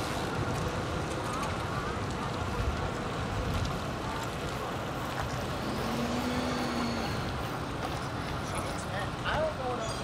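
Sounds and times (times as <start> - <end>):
passing road traffic: 0.0 - 10.0.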